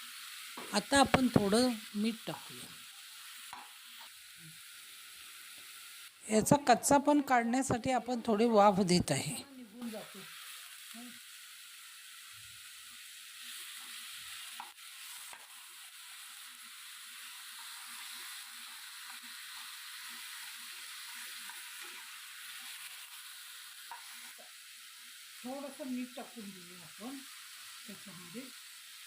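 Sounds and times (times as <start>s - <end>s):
meat sizzling in oil: 0.0s - 29.0s.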